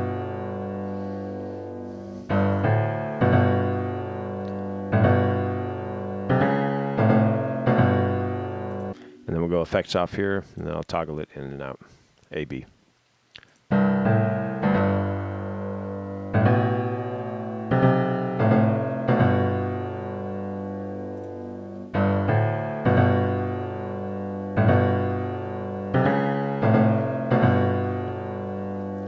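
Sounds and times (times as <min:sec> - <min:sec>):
piano chordal riff: 0:00.0 - 0:09.4, 0:13.7 - 0:29.0.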